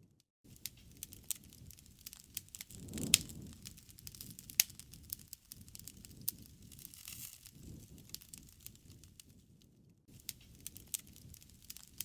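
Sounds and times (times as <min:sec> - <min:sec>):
wood fire crackling and popping: 0:00.5 - 0:12.0.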